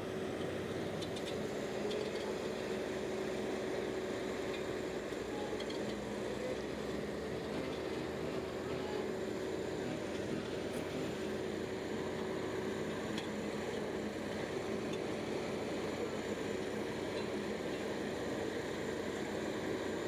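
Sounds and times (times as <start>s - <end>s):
bulldozer engine running: 0.0s - 20.0s.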